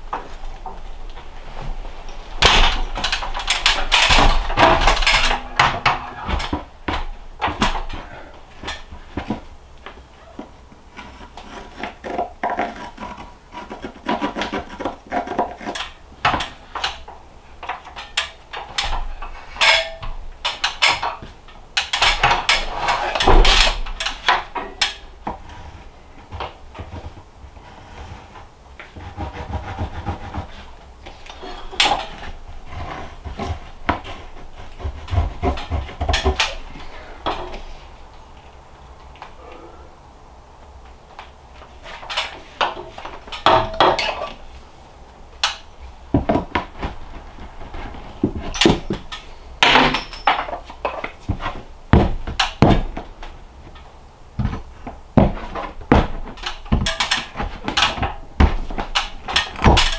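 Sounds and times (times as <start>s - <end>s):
wooden boards knocking and scraping: 2.4s - 30.8s, 31.4s - 37.6s, 45.4s - 59.9s.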